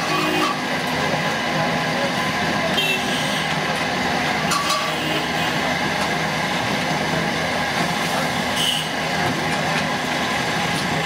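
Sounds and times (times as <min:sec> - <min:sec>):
hum of traffic and machinery: 0:00.0 - 0:11.0.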